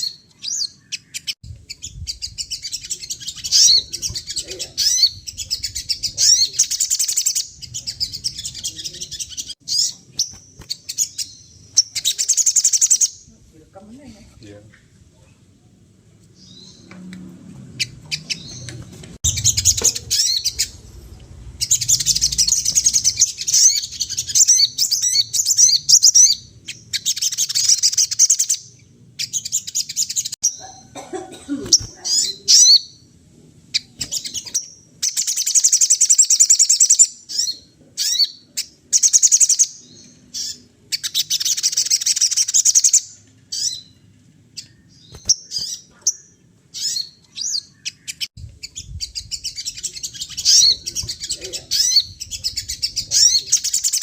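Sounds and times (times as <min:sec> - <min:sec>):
songbird chattering: 0:00.0 - 0:13.4, 0:17.8 - 0:31.0, 0:31.7 - 0:33.1, 0:33.7 - 0:44.0, 0:44.6 - 0:54.0.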